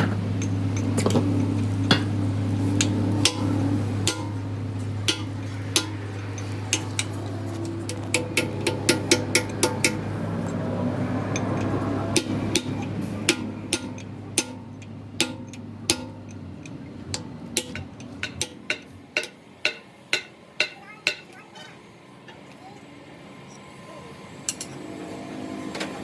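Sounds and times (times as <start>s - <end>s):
hammer striking steel: 0.0s - 10.6s, 11.2s - 21.4s
low machine hum: 0.0s - 26.0s.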